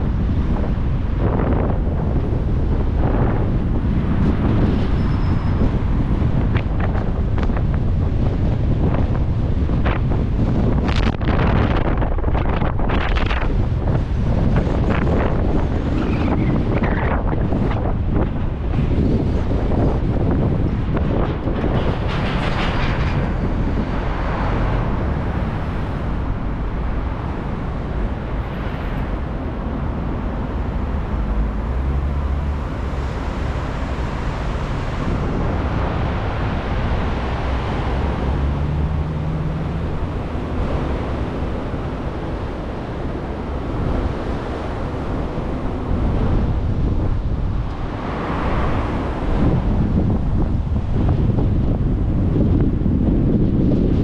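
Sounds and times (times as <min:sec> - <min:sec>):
car road and wind noise: 0:00.0 - 0:54.0.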